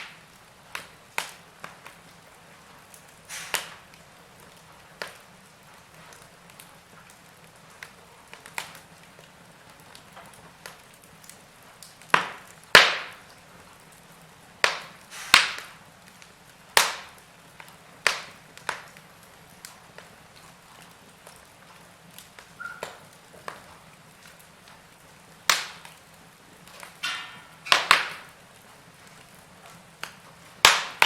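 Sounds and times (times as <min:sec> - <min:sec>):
low steady hiss: 0:00.0 - 0:31.0
wood fire crackling and popping: 0:00.0 - 0:31.0.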